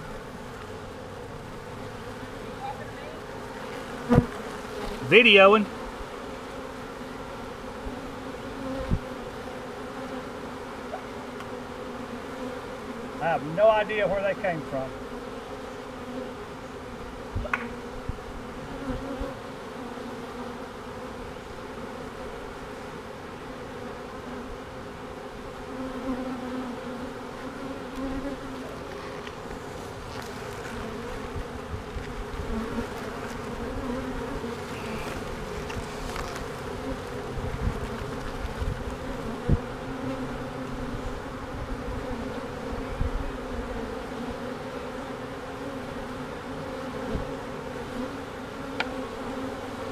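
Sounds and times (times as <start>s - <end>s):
honey bees buzzing: 0.0s - 49.9s.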